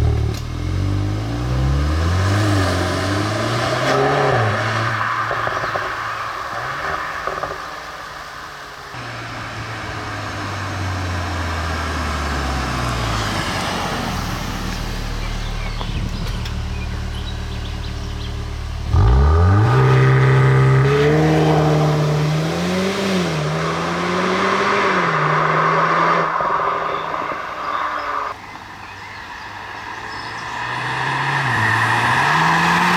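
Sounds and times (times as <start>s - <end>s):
car engine revving: 0.0s - 28.4s, 30.0s - 32.9s.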